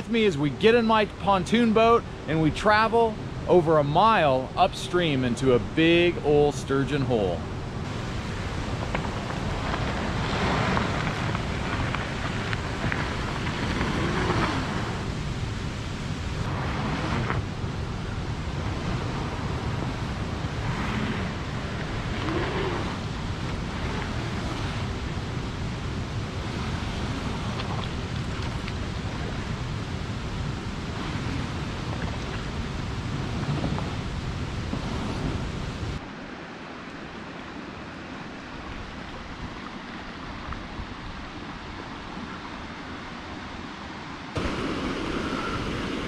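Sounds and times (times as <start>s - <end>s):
river water noise: 0.0s - 46.0s
wind rumbling on microphone: 0.0s - 46.0s.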